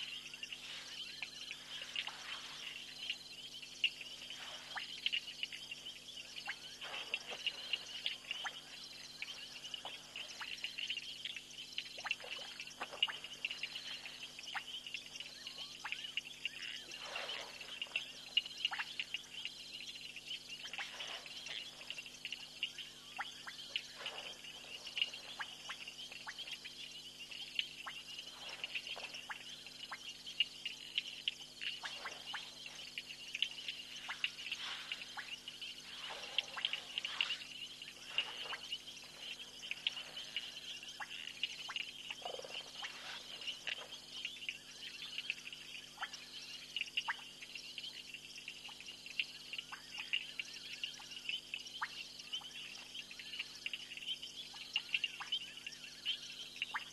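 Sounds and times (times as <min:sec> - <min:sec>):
falling frog calls: 0:00.0 - 0:56.9.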